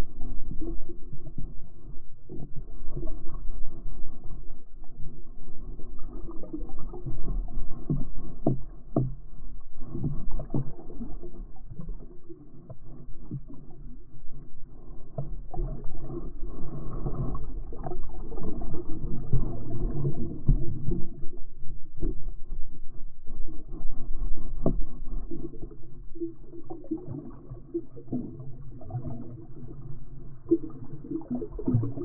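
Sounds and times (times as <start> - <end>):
underwater sloshing and gurgling: 0.0 - 32.0.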